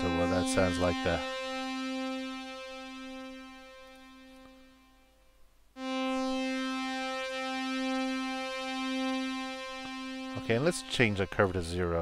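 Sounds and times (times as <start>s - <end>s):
synth pad with slow beating: 0.0s - 5.2s, 5.8s - 12.0s.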